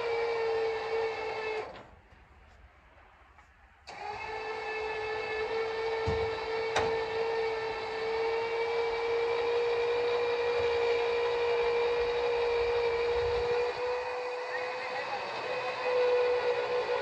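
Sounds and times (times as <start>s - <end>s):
small electric motor whining: 0.0s - 1.8s, 3.9s - 17.0s.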